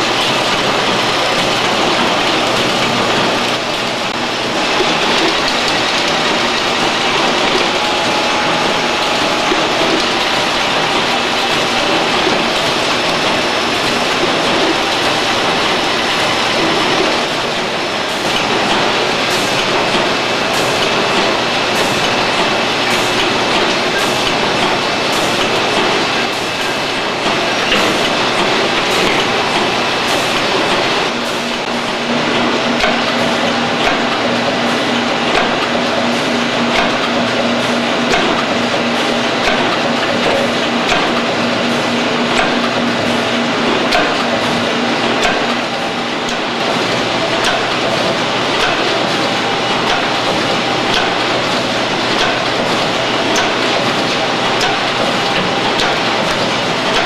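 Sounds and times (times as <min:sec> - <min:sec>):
machine clattering: 0:00.0 - 0:57.0.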